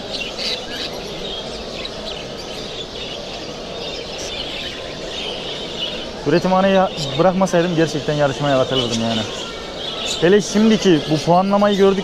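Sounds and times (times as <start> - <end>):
many caged birds chirping: 0.0 - 12.0.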